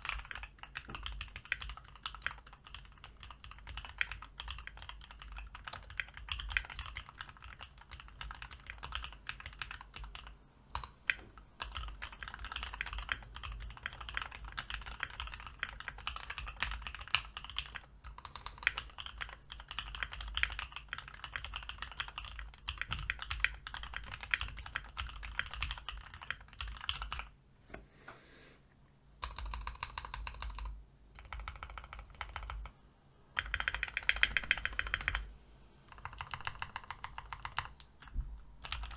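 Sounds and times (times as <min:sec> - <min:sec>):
mechanical keyboard typing: 0:00.0 - 0:27.3, 0:29.2 - 0:35.3, 0:35.9 - 0:38.9.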